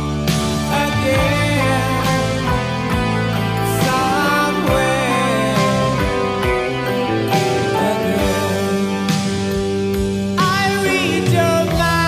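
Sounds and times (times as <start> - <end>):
background song: 0.0 - 12.0.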